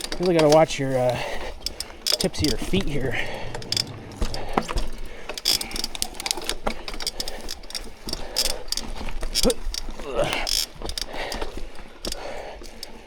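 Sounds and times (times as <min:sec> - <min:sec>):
bike chain and frame rattling: 0:00.0 - 0:13.0
bike hub ratcheting clicks: 0:00.0 - 0:13.0.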